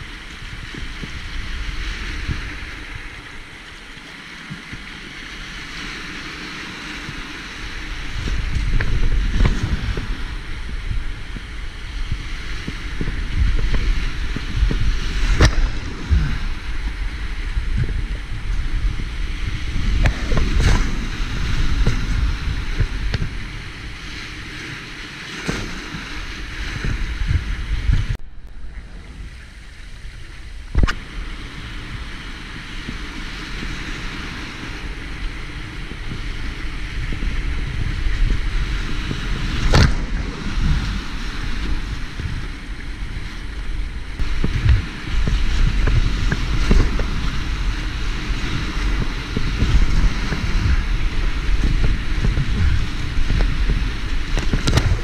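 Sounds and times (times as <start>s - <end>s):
rapids rushing and splashing: 0.0s - 55.0s.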